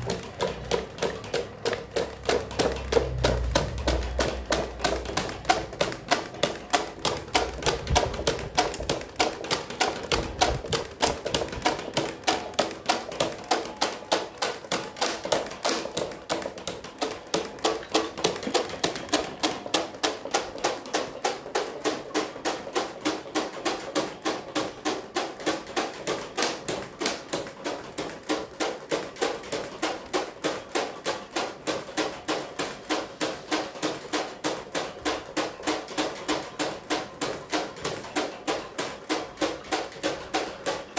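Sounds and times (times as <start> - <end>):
electric fan clacking: 0.0 - 40.9.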